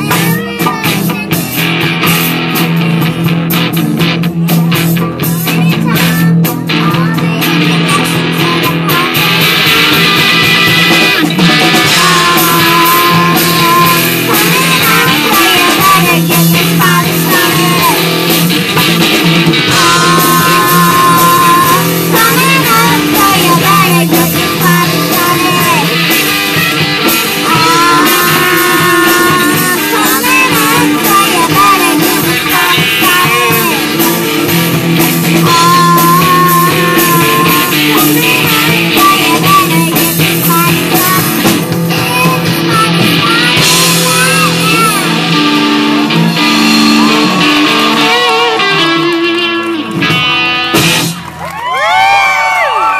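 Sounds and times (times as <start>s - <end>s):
person singing: 0.0s - 2.4s, 4.7s - 50.8s
bass guitar: 0.0s - 52.9s
drums: 0.0s - 52.9s
electric guitar: 0.0s - 52.9s.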